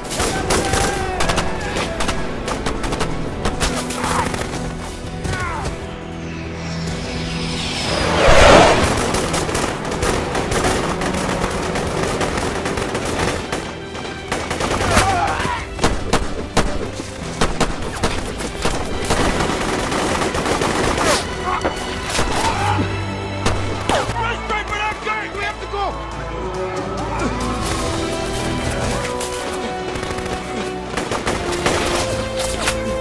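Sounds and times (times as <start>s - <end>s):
film music score: 0.0s - 33.0s.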